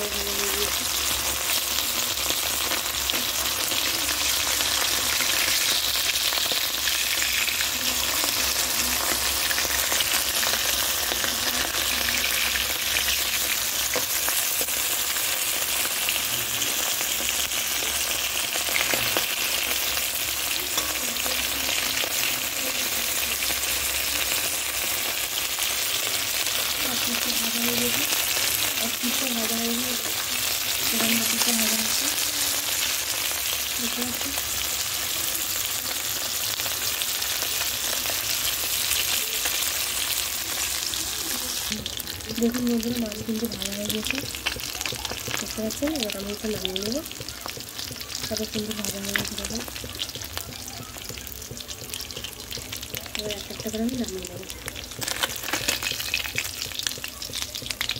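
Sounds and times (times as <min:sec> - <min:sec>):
fish sizzling in hot oil: 0:00.0 - 0:57.9.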